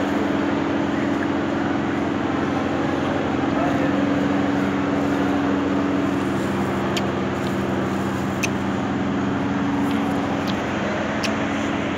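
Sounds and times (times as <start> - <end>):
low machine drone: 0.0 - 11.9.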